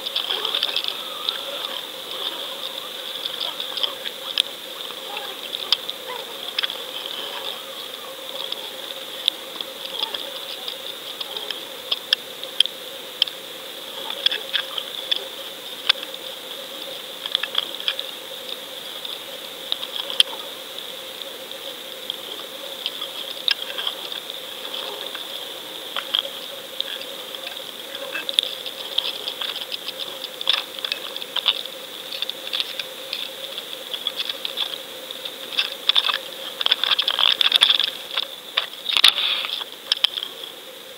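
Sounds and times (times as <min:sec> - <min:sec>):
crackling clicks and ticks: 0:00.0 - 0:40.9
steady high whine: 0:00.0 - 0:40.9.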